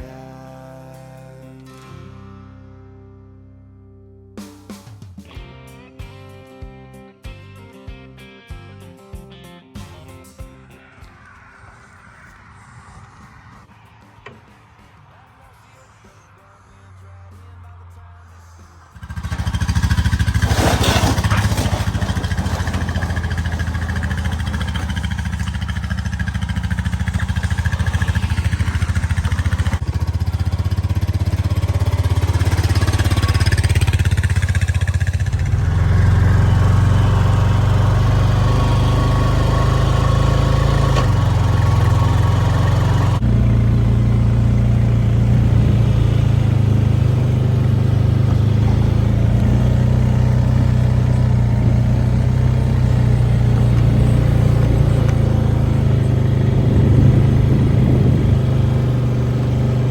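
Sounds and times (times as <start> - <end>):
engine running: 9.8 - 59.9.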